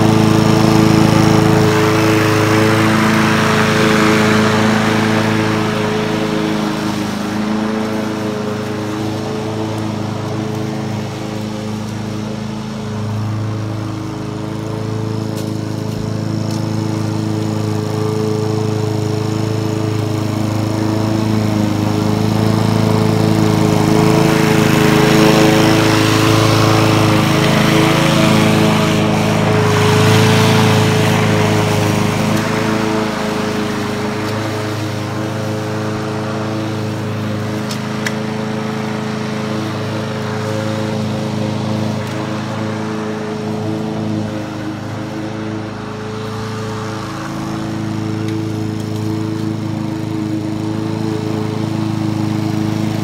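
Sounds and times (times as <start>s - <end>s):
lawn mower engine cutting grass: 0.0s - 53.0s.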